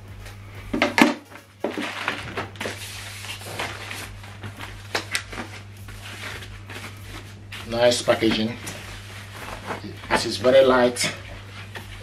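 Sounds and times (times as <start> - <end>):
wrapping rustling and crinkling: 1.6 - 12.0.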